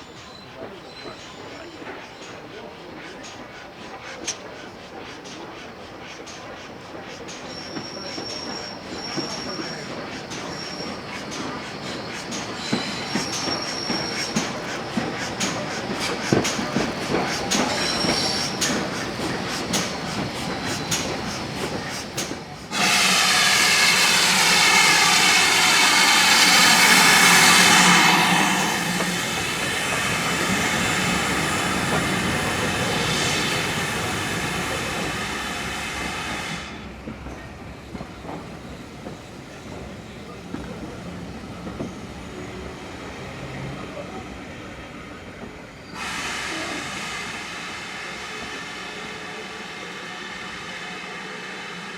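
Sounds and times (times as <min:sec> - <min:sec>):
loud steam rush with ringing tone: 0:00.0 - 0:51.9
train wheels clicking over rails: 0:00.1 - 0:43.8.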